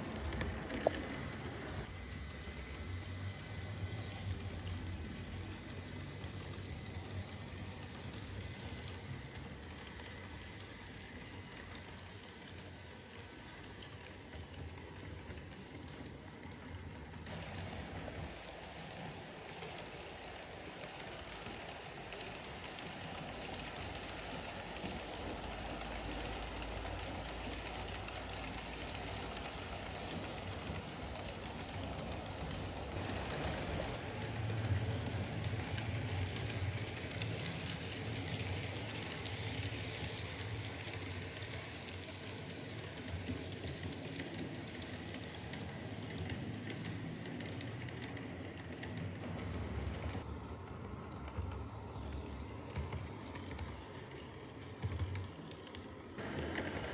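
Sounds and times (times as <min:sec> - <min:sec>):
model train motor whirring: 0:00.0 - 0:15.8, 0:16.8 - 0:50.1, 0:54.7 - 0:56.9.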